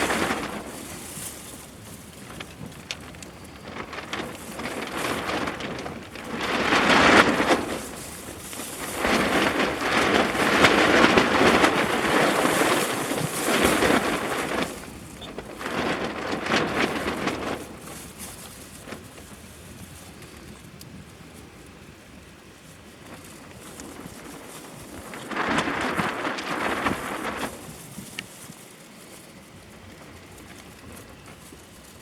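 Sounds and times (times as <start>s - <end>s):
fire crackles: 0.0s - 32.0s.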